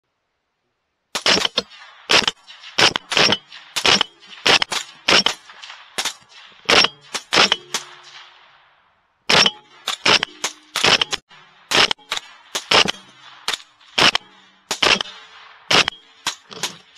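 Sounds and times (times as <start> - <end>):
rapid rifle fire: 1.2 - 8.7, 9.3 - 16.9.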